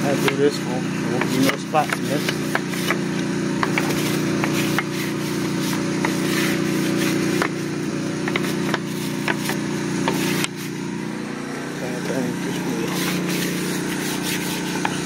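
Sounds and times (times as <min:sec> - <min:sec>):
wash mitt scrubbing wheel hub: 0:00.0 - 0:10.9, 0:12.0 - 0:15.0
engine running: 0:00.0 - 0:15.0.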